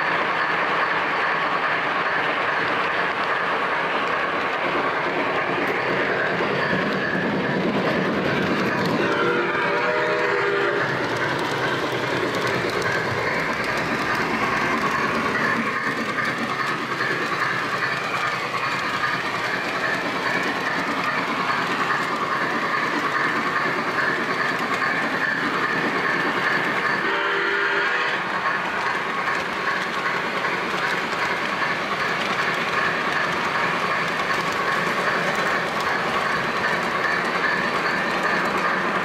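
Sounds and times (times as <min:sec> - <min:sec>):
model train wheels clattering: 0:00.3 - 0:27.2, 0:28.3 - 0:39.0.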